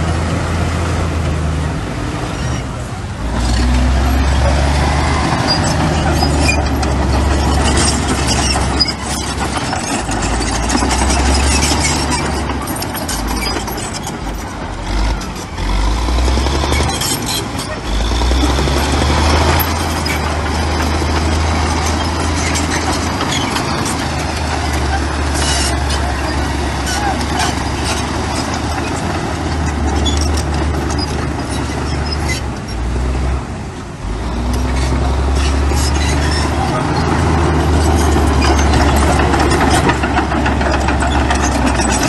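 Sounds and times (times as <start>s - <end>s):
diesel machinery engine rumble: 0.0s - 42.0s.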